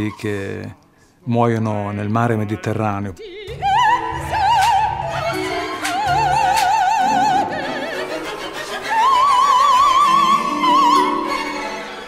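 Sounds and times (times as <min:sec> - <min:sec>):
soprano singing with vibrato: 0:02.0 - 0:12.0.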